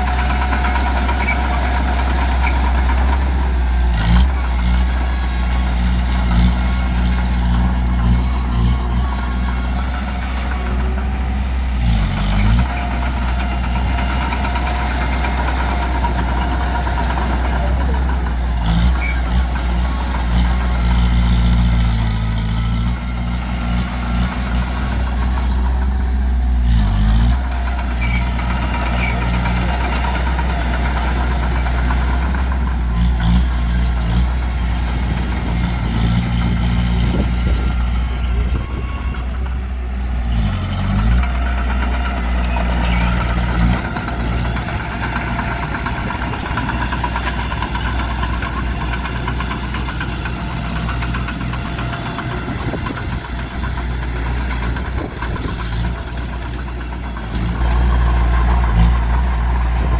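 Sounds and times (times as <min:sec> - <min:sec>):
heavy diesel engines rumbling: 0:00.0 - 0:59.9.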